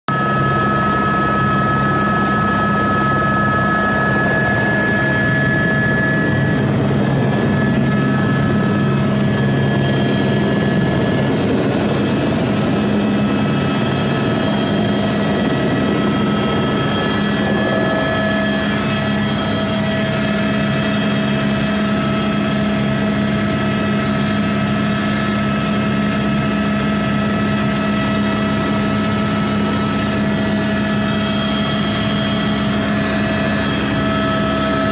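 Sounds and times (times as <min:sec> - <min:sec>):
helicopter turbine and rotor: 0:00.1 - 0:34.9.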